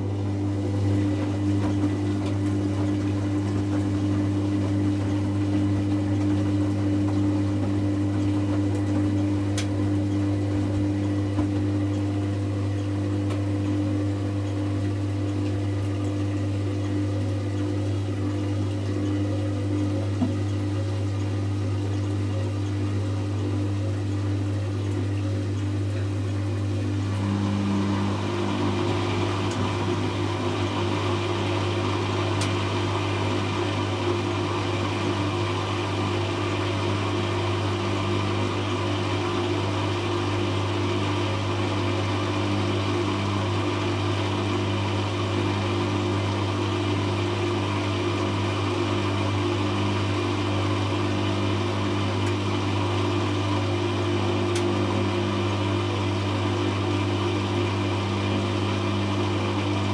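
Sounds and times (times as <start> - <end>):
washing machine low hum: 0.0 - 59.9
washing machine spin whirring: 0.0 - 59.9.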